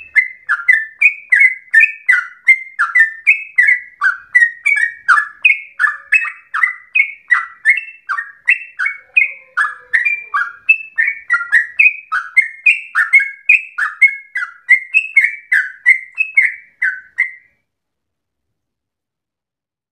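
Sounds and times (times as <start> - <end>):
bird singing bubbly chirps: 0.0 - 17.5.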